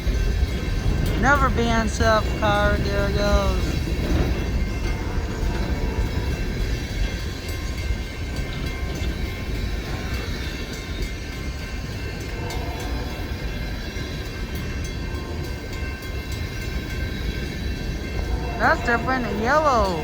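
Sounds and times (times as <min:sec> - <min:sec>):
clicks and clanks of train cars: 0:00.0 - 0:20.0
train wheels rumbling on rail: 0:00.0 - 0:20.0.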